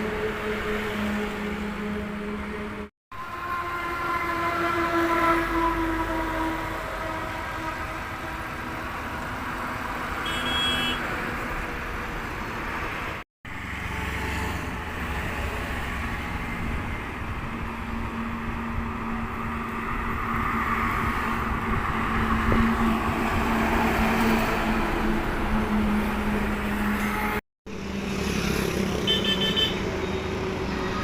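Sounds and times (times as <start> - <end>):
truck engine and road noise: 0.0 - 31.0.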